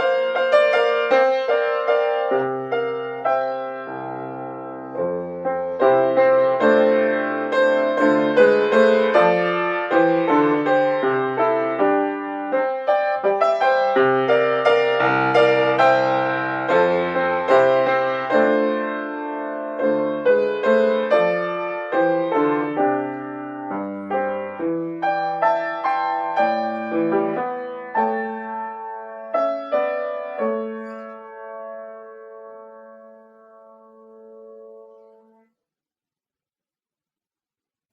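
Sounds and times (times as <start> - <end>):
solo classical piano: 0.0 - 35.5.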